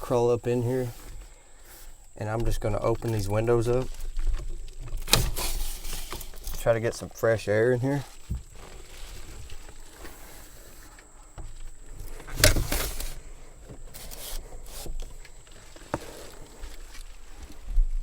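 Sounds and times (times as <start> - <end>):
rubbing and scraping: 0.0 - 17.8.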